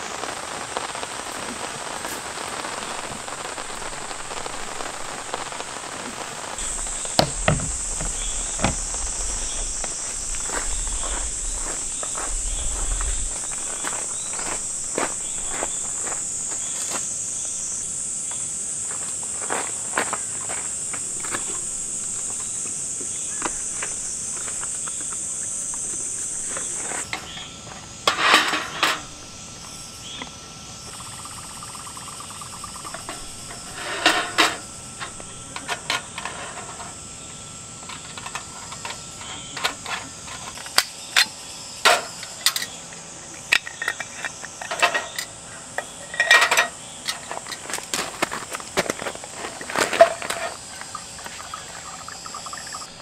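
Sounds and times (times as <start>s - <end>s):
high-pitched insect chorus: 0.0s - 53.0s.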